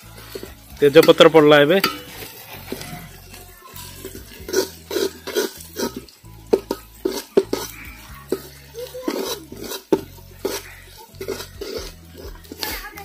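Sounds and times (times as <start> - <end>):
metal spatula scraping pan: 0.0 - 13.0
onions sizzling in oil: 0.0 - 13.0.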